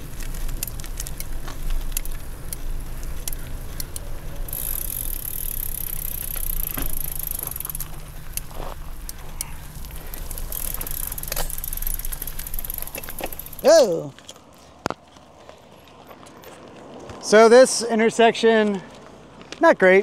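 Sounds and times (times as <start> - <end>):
bicycle rattles and clicks: 0.0 - 17.2.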